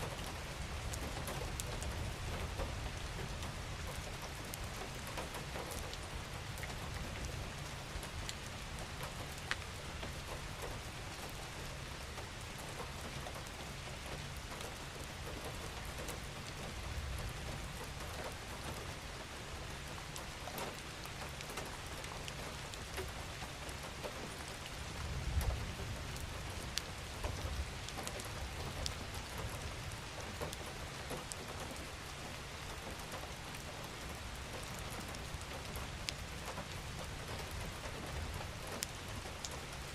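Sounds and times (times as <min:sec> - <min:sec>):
raindrops ticking: 0:00.0 - 0:39.9
steady rain falling: 0:00.0 - 0:39.9.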